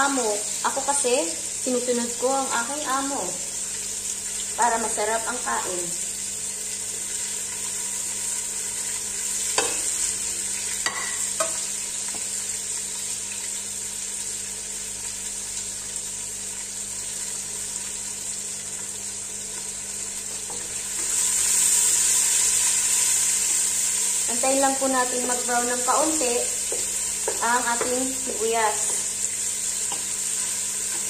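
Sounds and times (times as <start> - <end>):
onion sizzling in oil: 0.0 - 31.0.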